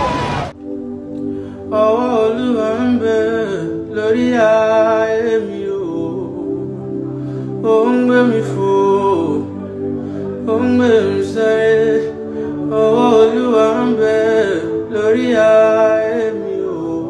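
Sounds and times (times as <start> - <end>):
slow background music: 0.0 - 17.0
person singing long notes: 1.1 - 17.0.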